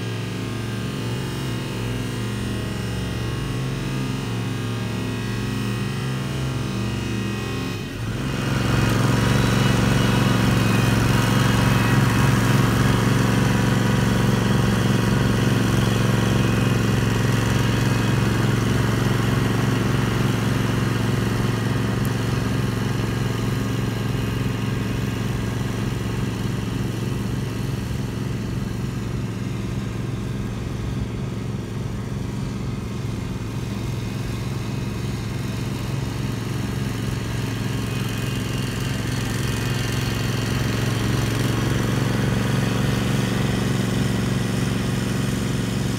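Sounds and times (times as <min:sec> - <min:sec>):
mower engine running: 0:00.0 - 0:45.9.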